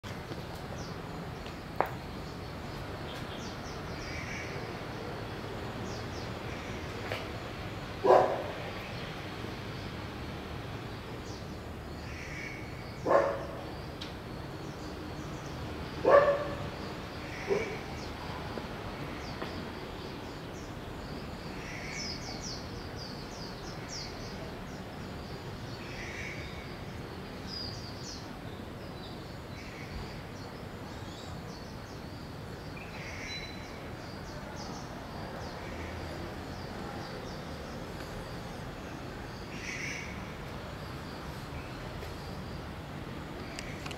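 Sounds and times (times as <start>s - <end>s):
small birds chirping: 0.0s - 43.9s
steady background noise: 0.0s - 43.9s.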